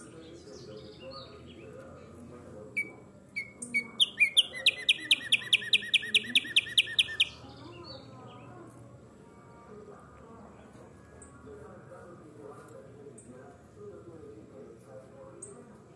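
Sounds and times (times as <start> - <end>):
songbird singing: 0.0 - 15.9.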